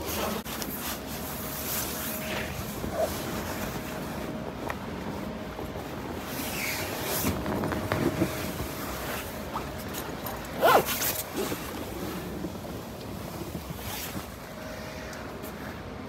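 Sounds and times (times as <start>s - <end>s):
fabric rustling: 0.0s - 14.8s
faint hum: 0.0s - 16.0s.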